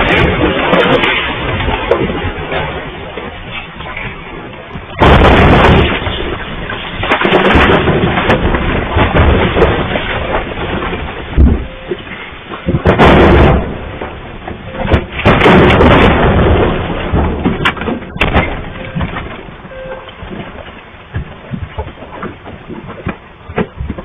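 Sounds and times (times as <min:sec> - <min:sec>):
building shaking in earthquake: 0:00.0 - 0:24.0.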